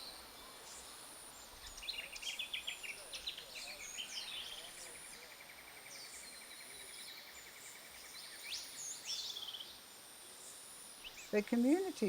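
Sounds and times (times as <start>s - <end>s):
insect hum: 0.0s - 12.0s.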